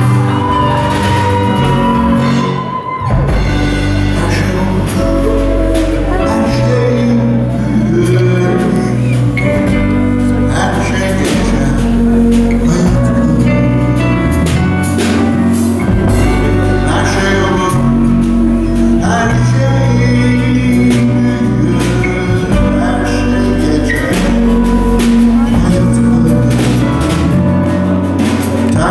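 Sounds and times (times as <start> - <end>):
acoustic guitar: 0.0 - 28.9
bass notes: 0.0 - 28.9
electric guitar: 0.0 - 28.9
person singing: 0.0 - 28.9.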